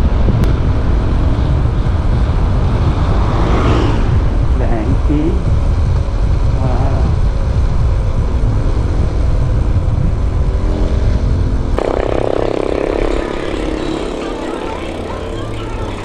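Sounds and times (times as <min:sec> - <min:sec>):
steady engine hum: 0:00.0 - 0:16.0
vehicle engine: 0:00.0 - 0:16.0
wind rumble on microphone: 0:00.0 - 0:16.0.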